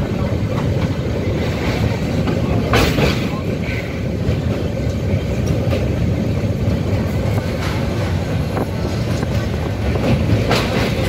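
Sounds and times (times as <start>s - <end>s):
train wheels rumbling on rails: 0.0s - 11.0s
clicks and clanks on bridge: 0.1s - 11.0s.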